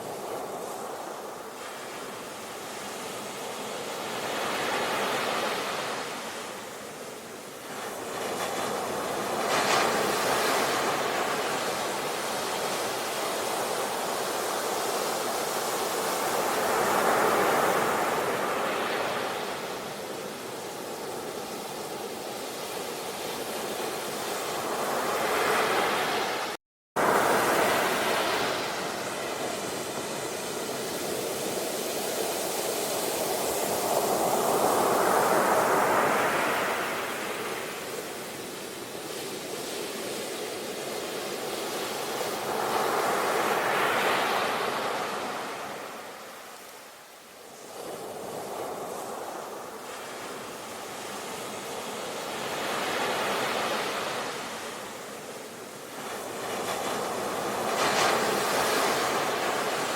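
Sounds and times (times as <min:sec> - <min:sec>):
ocean waves breaking: 0:07.6 - 0:46.5, 0:47.6 - 0:59.9.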